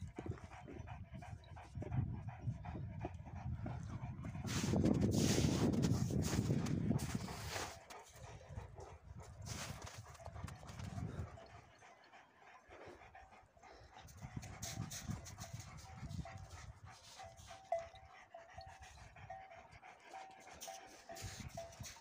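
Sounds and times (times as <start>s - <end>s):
panting breath: 0.0s - 22.0s.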